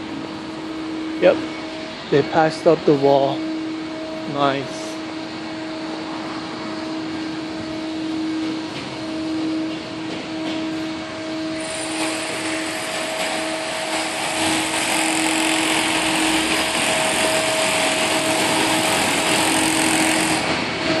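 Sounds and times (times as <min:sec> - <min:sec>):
machinery motor hum: 0:00.0 - 0:21.0
rushing mechanical noise: 0:00.0 - 0:21.0.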